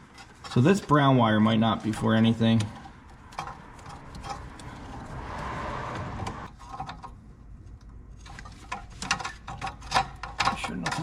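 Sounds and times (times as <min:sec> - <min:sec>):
clicks of handling wiring: 0:00.0 - 0:05.0, 0:06.2 - 0:11.0.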